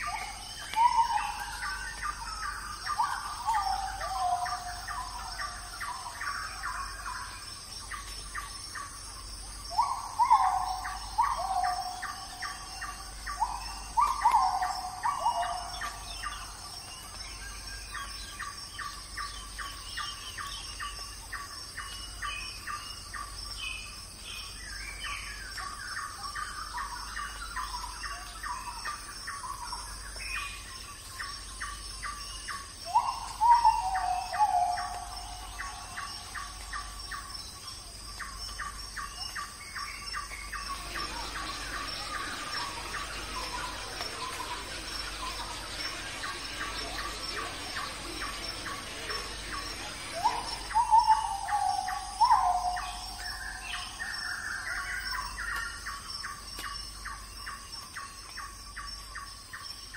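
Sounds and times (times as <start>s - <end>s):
whistled bird calls: 0.0s - 8.9s, 9.7s - 23.9s, 24.7s - 59.3s
steady high hiss: 0.0s - 24.8s, 29.1s - 59.2s
birds chirping: 0.0s - 59.9s.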